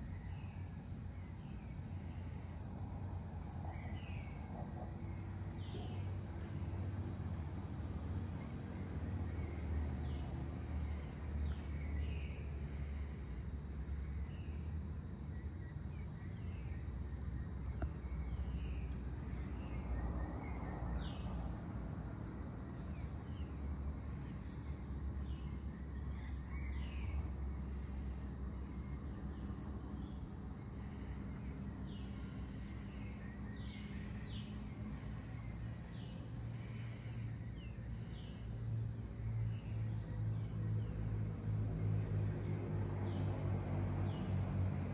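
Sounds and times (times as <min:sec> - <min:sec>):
insect chorus: 0:00.0 - 0:44.9.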